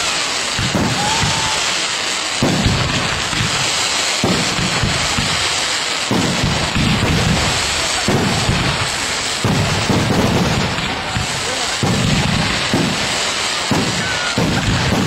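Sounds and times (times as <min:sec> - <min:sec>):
fireworks booming: 0:00.0 - 0:15.0
steady hiss: 0:00.0 - 0:15.0.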